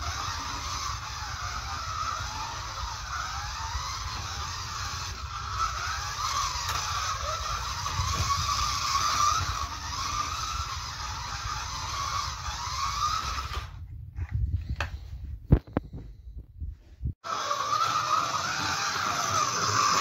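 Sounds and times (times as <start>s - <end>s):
slot car motor whining: 0.0s - 13.8s, 17.2s - 20.0s.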